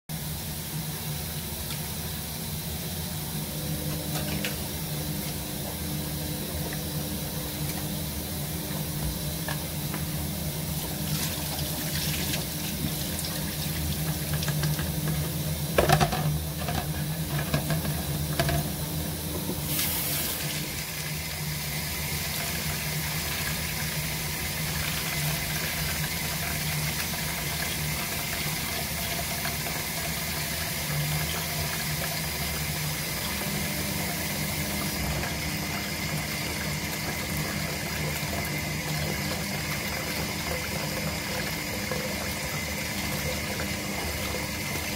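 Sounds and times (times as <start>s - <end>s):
water draining through a sieve: 2.7s - 44.9s.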